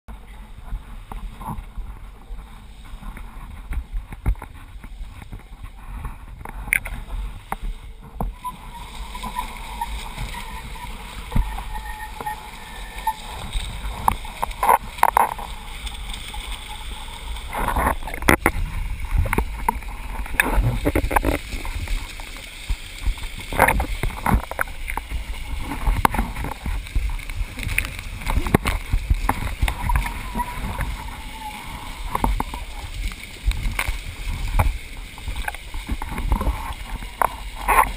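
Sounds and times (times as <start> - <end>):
board slapping water: 0.1 - 37.9
water rushing past: 0.1 - 37.9
wind buffeting microphone: 0.1 - 37.9.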